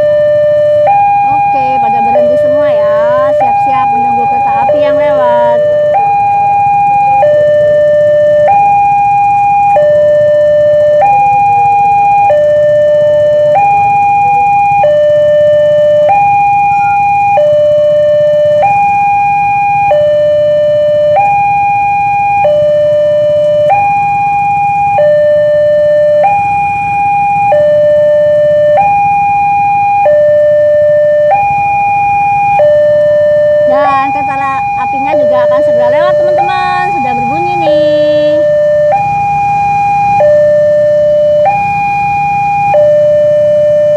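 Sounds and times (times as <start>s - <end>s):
level crossing two-tone alarm: 0.0s - 43.9s.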